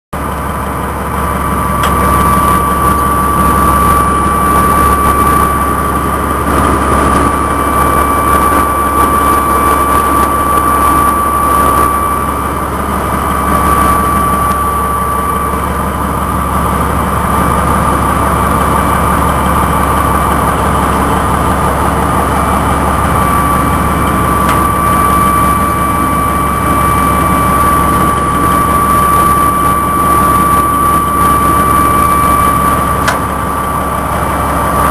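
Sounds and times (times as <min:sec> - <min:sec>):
heavy engine drone: 0:00.1 - 0:34.9
high continuous whine: 0:00.2 - 0:34.9.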